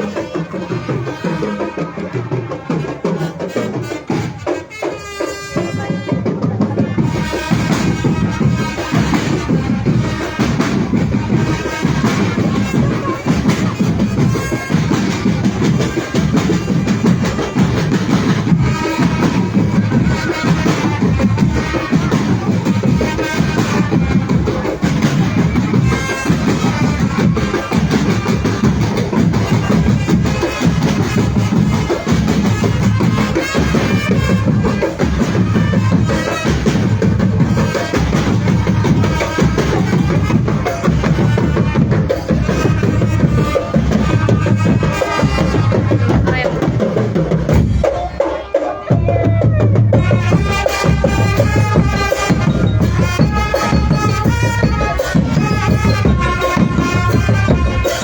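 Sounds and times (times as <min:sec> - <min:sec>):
marching percussion band: 0:00.0 - 0:58.0.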